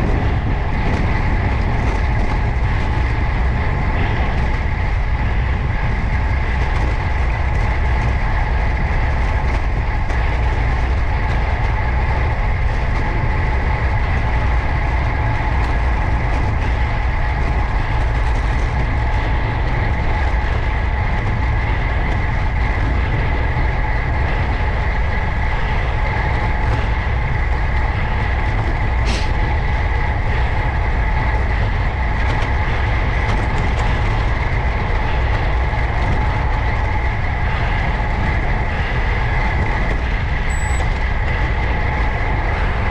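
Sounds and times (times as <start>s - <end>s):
bicycle road rumble: 0.0s - 42.9s
faint whine: 0.0s - 42.9s
wind rushing over microphone: 0.0s - 42.9s.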